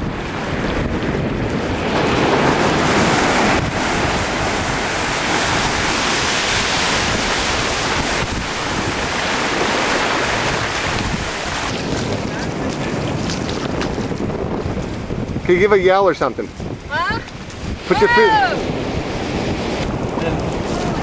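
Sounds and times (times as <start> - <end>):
ocean surf washing up beach: 0.0 - 21.0
wind buffeting microphone: 0.0 - 21.0.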